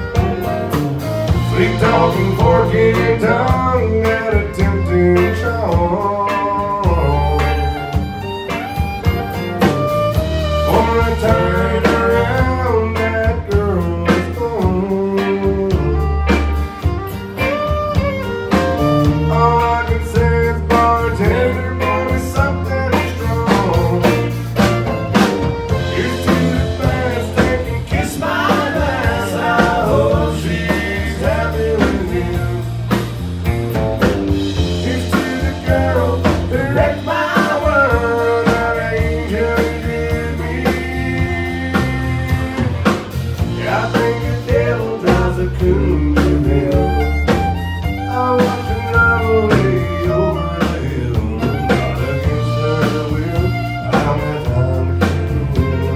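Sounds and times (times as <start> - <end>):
person singing: 0.0 - 33.1, 34.6 - 55.9
country band playing: 0.0 - 55.9.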